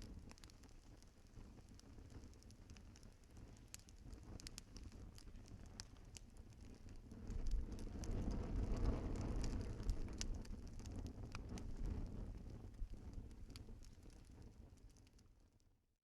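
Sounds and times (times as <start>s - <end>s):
wood fire crackling and popping: 0.0s - 15.8s.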